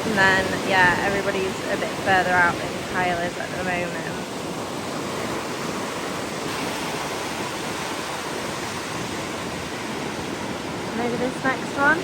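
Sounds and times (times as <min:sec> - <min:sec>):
surf breaking and washing ashore: 0:00.0 - 0:12.0
wind on microphone: 0:00.0 - 0:12.0.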